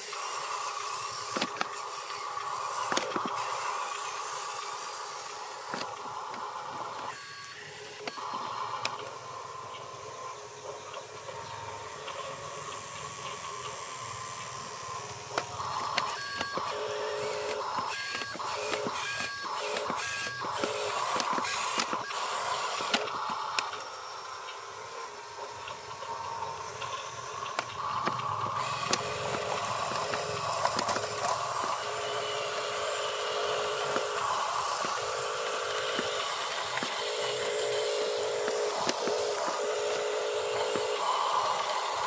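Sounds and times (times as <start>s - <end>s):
toy truck motor whining: 0.0s - 42.0s.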